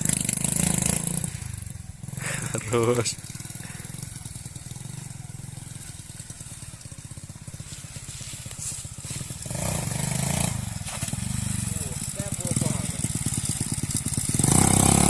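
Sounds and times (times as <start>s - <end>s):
dirt bike engine idling: 0.0s - 15.0s.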